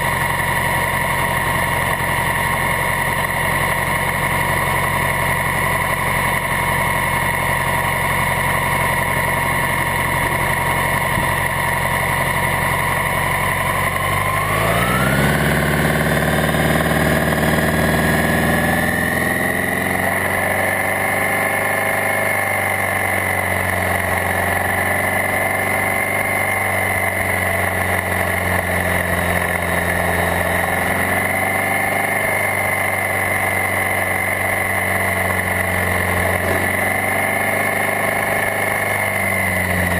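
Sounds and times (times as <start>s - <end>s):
engine idling and pulling away: 0.0s - 39.9s.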